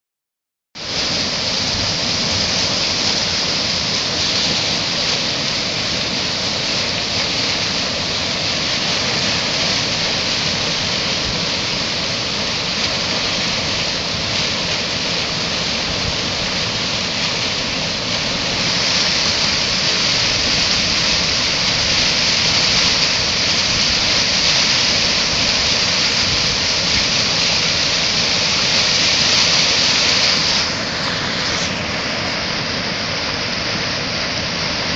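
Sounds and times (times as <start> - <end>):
river water rushing: 0.8 - 34.9.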